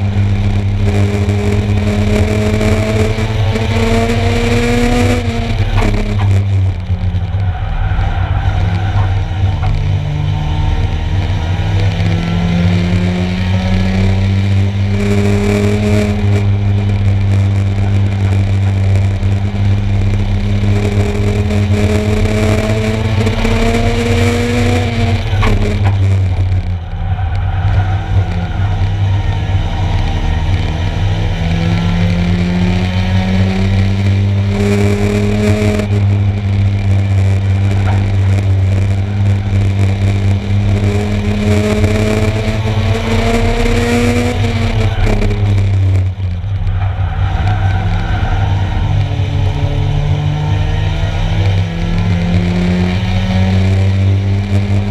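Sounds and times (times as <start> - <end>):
racing car engines: 0.0 - 54.9.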